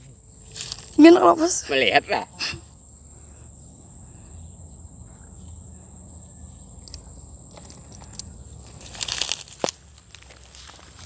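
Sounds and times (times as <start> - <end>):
crickets chirping: 0.0 - 11.0
low outdoor hum: 0.0 - 11.0.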